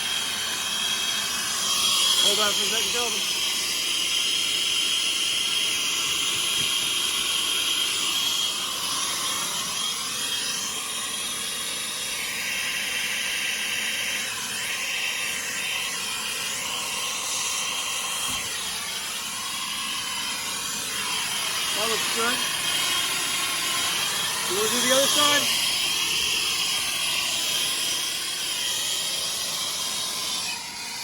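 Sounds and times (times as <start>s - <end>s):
torch flame hissing: 0.0s - 31.0s.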